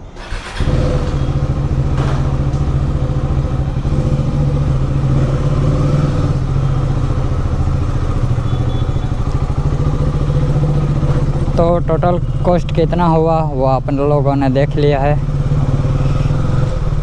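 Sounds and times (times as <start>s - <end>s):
motorcycle engine running steadily: 0.4s - 17.0s.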